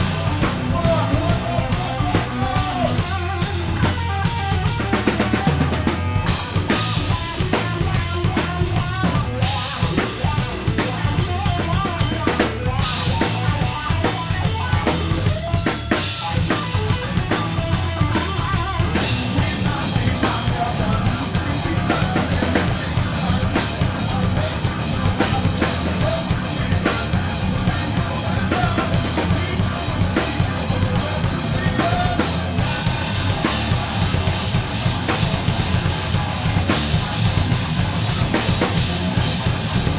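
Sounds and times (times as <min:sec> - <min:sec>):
drum kit beat: 0:00.0 - 0:39.9
live rock band: 0:00.0 - 0:39.9.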